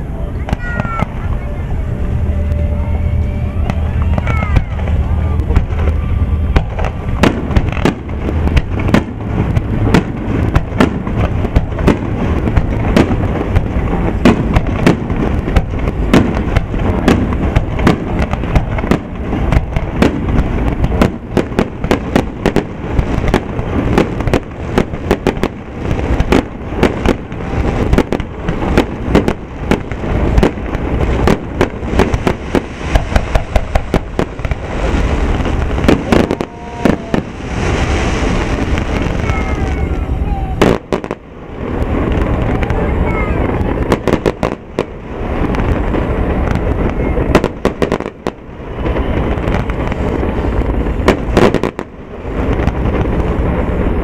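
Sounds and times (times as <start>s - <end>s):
continuous low rumble: 0.0s - 54.0s
fireworks bangs and cracks: 0.0s - 54.0s.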